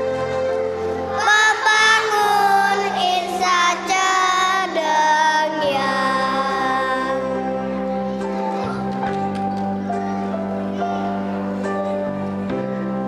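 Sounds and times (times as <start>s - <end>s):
instrumental music accompaniment: 0.0s - 13.0s
children's choir singing: 0.7s - 12.7s.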